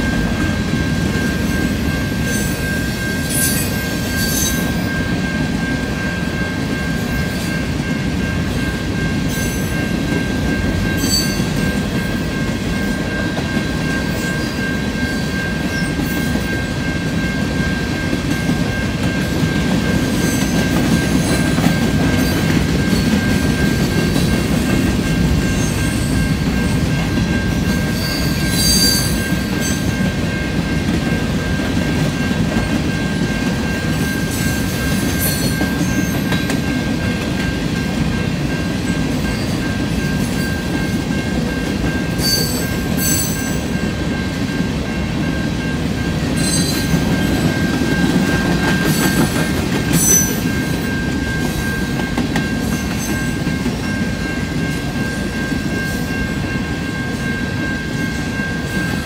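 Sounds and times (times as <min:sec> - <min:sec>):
crossing bell ringing: 0:00.0 - 0:59.0
freight train wheels rumbling: 0:00.0 - 0:59.0.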